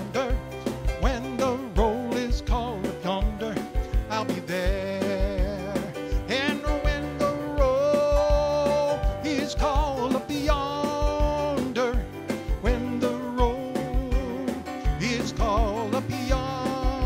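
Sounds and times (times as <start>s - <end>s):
gospel piano music: 0.0s - 17.0s.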